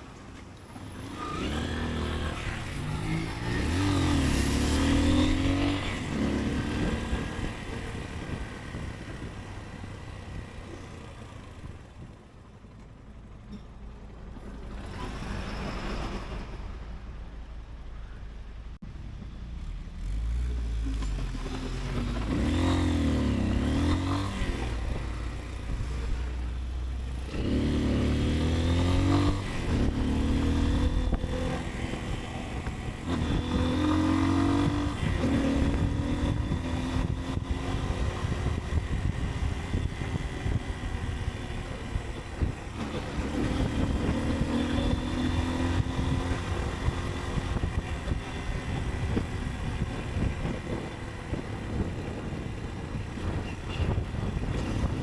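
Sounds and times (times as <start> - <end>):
motorcycle engine accelerating: 0.0 - 12.5, 19.1 - 55.0
wind and road rumble: 0.0 - 55.0.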